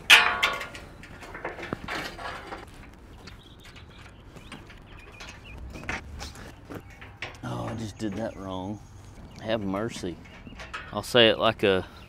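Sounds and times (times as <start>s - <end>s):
metal knocks and clatter: 0.0s - 11.6s
sheet metal clanging: 0.0s - 11.8s.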